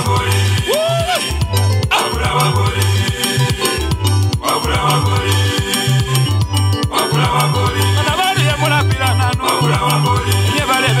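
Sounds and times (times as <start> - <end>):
upbeat music with heavy bass: 0.0 - 11.0.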